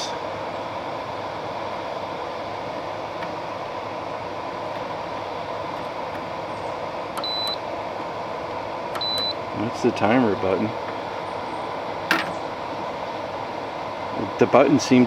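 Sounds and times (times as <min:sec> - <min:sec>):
dehumidifier fan whoosh: 0:00.0 - 0:15.0.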